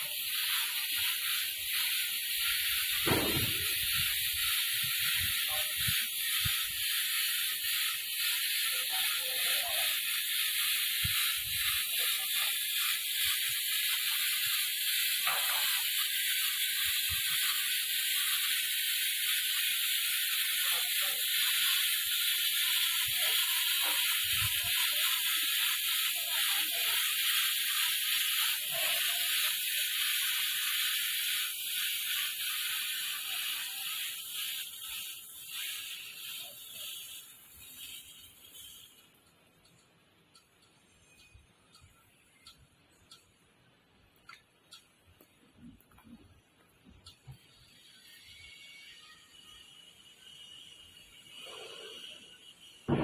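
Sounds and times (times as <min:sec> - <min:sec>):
car wash water jets spraying: 0:00.0 - 0:43.4, 0:44.2 - 0:53.0.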